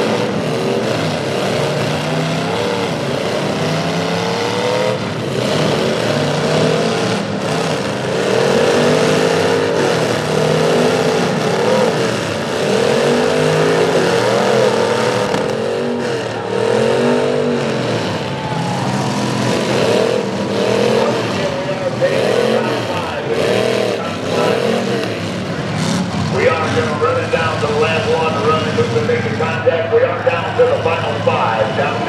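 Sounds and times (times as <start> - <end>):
truck engines revving hard: 0.0 - 32.0.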